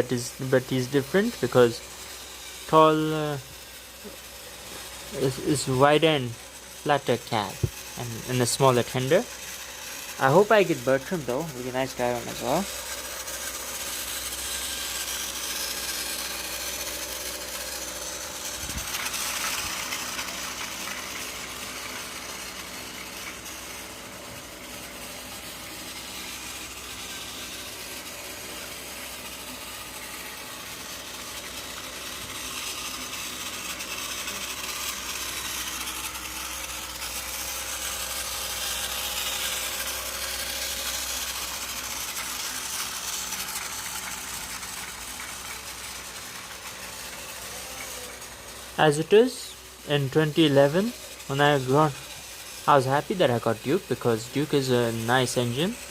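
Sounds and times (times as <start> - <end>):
toy train motor whirring: 0.0 - 55.9.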